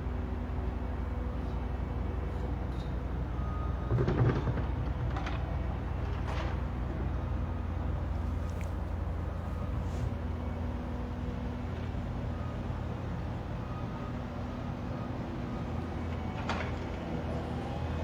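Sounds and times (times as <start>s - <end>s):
heavy engine humming: 0.0s - 18.0s.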